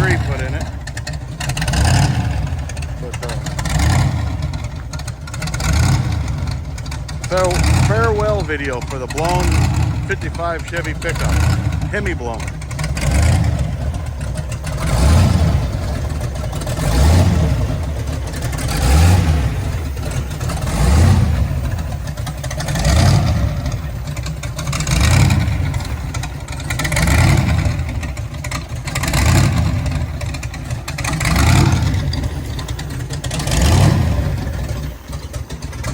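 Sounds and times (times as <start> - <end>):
engine revving: 0.0 - 35.9.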